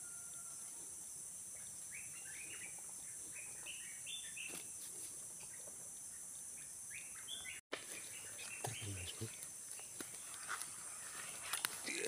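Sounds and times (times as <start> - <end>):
small birds chirping: 0.6 - 12.0.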